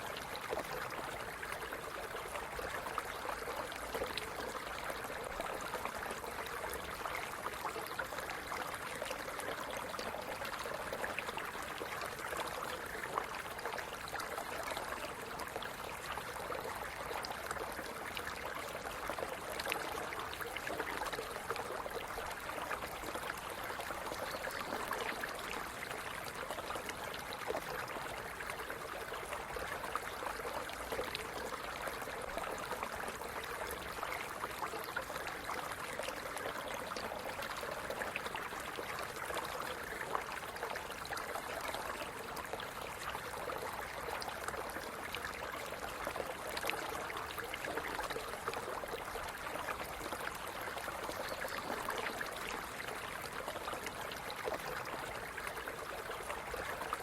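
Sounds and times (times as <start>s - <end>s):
stream water babbling over stones: 0.0s - 57.0s.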